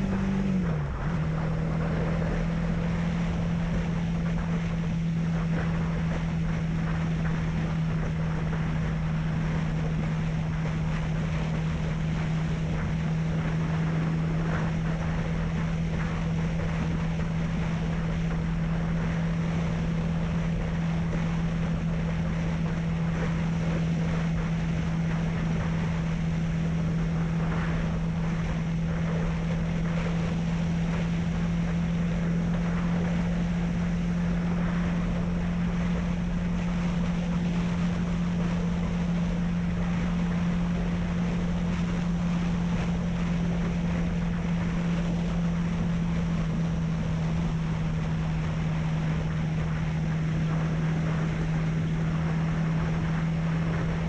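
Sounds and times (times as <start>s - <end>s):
motorcycle engine cruising: 0.0s - 54.0s
wind noise on microphone: 0.0s - 54.0s.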